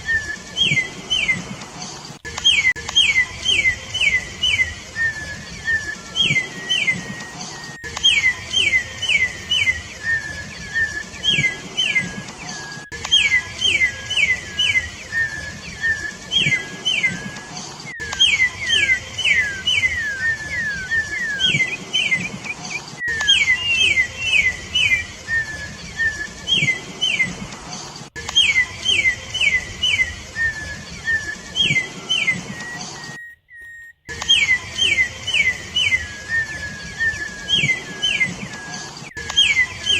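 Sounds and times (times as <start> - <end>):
bird whistling descending notes: 0.0 - 27.5, 28.1 - 39.9.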